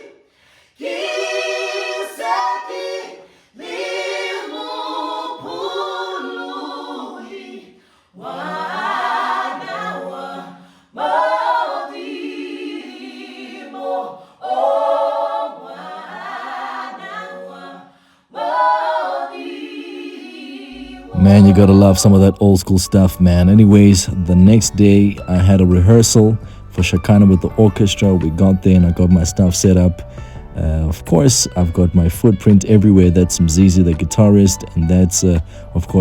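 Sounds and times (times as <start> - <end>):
unaccompanied gospel singing: 0.0 - 36.0.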